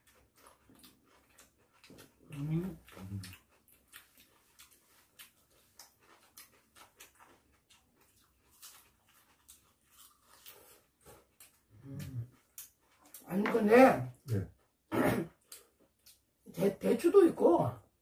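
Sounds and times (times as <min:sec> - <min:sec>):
faint chewing and mouth smacks: 0:00.0 - 0:16.5.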